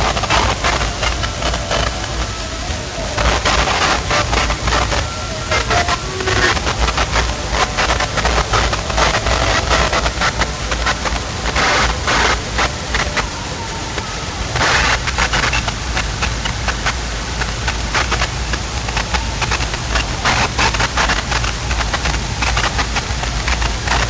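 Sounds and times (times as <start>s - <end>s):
crackly noise: 0.0s - 24.0s
distorted deep bass: 0.0s - 24.0s.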